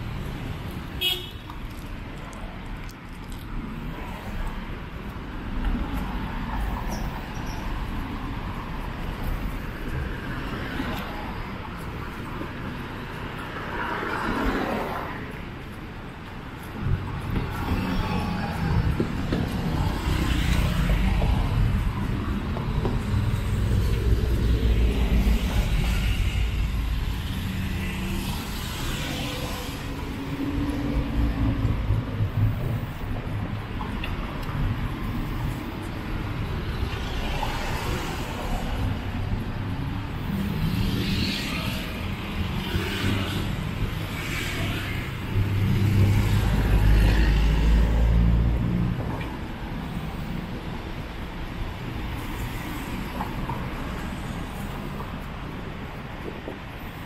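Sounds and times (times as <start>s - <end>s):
cars driving past: 0.0s - 57.0s
tyres swishing on road: 0.0s - 57.0s.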